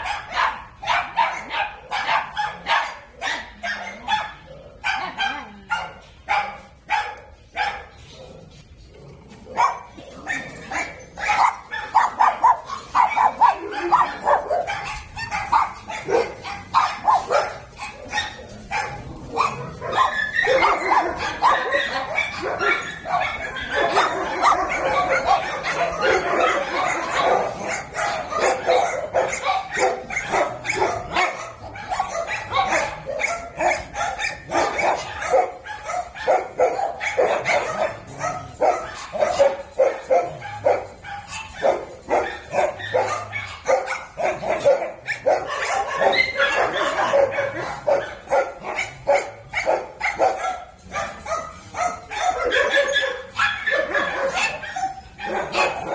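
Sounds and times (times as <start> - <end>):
dogs barking and yipping: 0.0 - 55.9.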